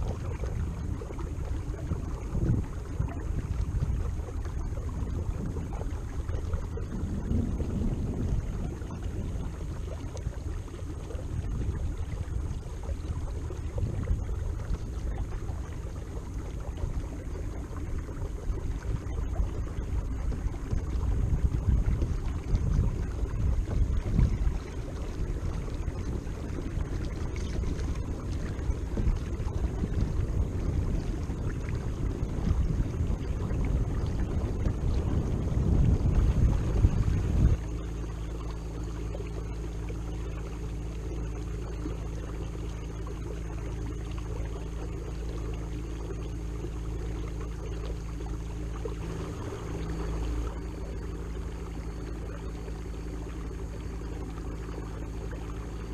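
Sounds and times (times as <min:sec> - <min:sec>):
wind on microphone: 0:00.0 - 0:47.8
water rumbling along hull: 0:00.0 - 0:55.9.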